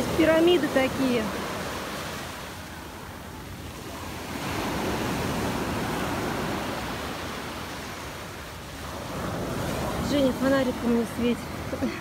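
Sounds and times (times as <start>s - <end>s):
surf washing up a beach: 0.0s - 12.0s.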